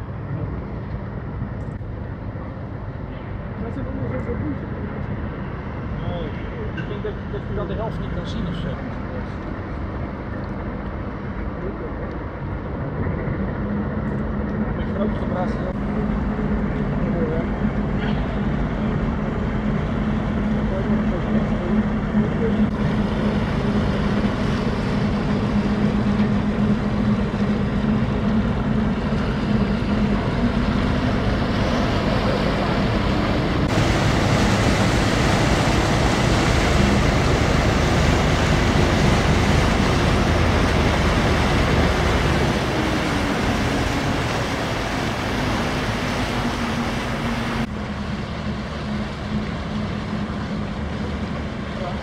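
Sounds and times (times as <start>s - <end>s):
boat engine humming: 0.0s - 52.0s
rushing churning water: 0.0s - 52.0s.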